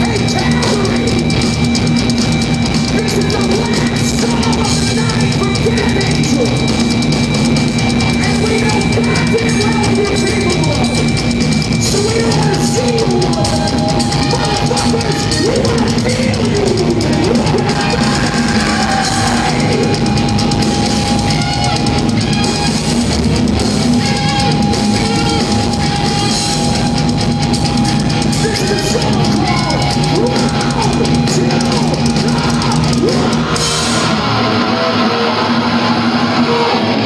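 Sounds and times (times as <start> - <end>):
distorted electric guitars: 0.0 - 37.0
fast drum kit: 0.0 - 37.0.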